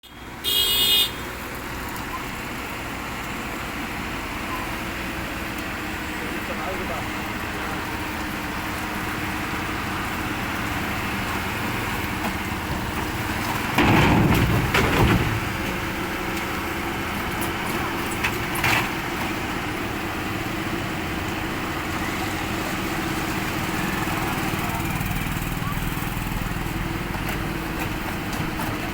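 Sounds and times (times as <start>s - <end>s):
excavator engine running: 0.1s - 28.9s.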